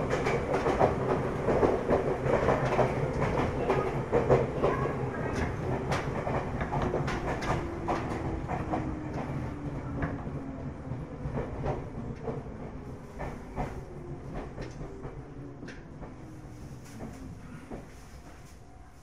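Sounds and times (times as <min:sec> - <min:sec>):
low hum of train equipment: 0:00.0 - 0:19.0.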